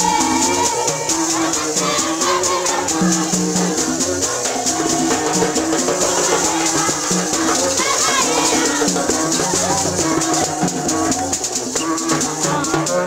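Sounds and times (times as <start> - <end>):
hand drums: 0.0 - 13.0
rattles shaken: 0.0 - 13.0
tube trumpets: 0.0 - 13.0.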